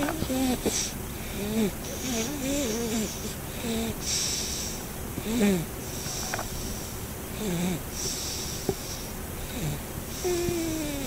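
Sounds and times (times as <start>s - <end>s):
infant snoring and wheezing: 0.0s - 11.0s.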